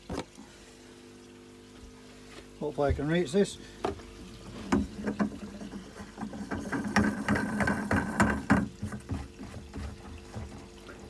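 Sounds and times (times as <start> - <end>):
steady low hum: 0.2 - 11.0.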